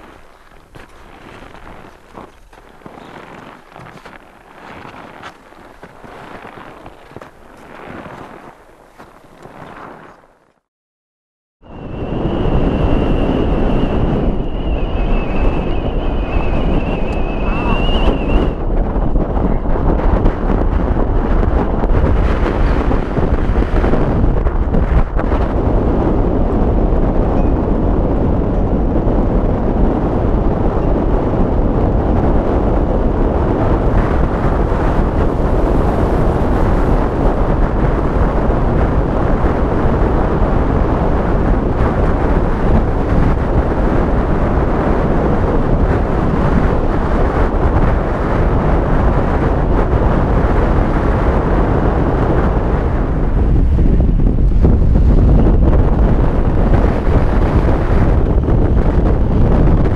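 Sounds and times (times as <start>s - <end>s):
wind buffeting microphone: 0.0s - 10.6s, 11.6s - 59.9s.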